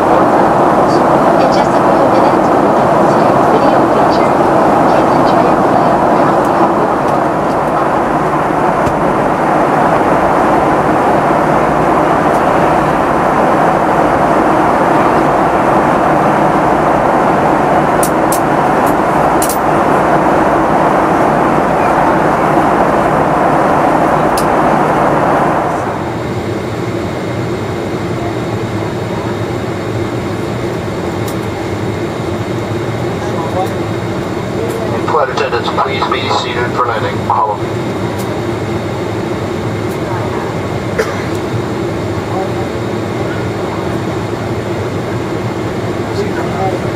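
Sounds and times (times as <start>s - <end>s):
faint steady hum: 0.0s - 46.9s
jet engines and airflow rushing: 0.0s - 46.9s.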